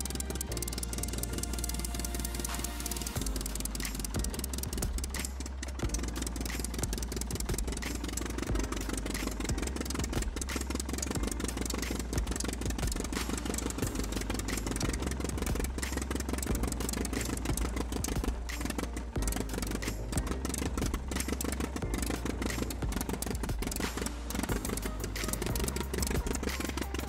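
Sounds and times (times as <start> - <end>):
model tractor engine clicking: 0.0 - 27.0.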